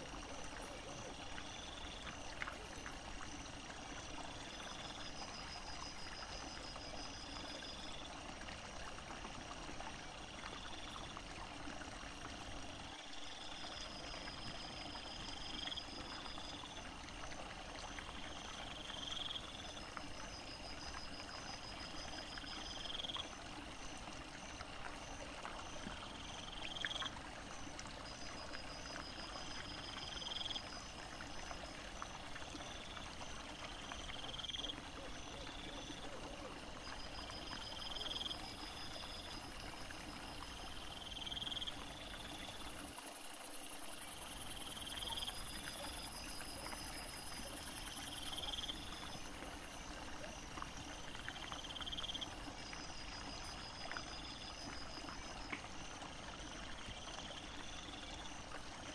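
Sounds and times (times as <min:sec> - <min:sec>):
insects chirping: 0:00.0 - 0:08.2, 0:10.1 - 0:11.3, 0:11.9 - 0:16.9, 0:17.8 - 0:58.9.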